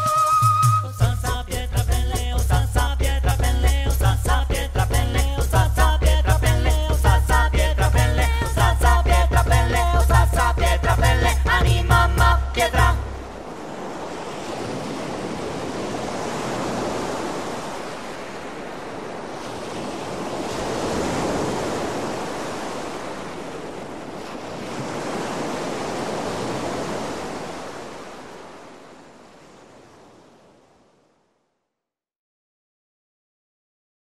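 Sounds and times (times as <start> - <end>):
sea waves washing in: 1.7 - 31.2.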